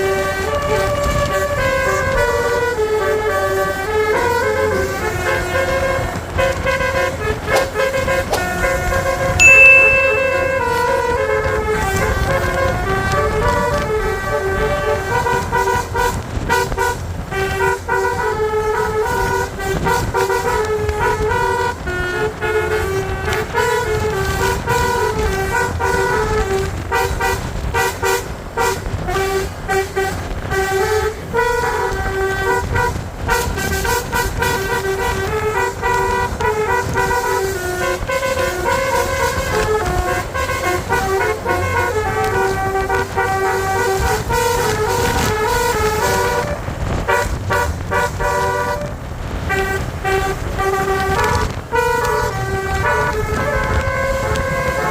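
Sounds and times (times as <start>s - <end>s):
bus horn playing melody: 0.0s - 54.9s
low vehicle rumble: 0.0s - 54.9s.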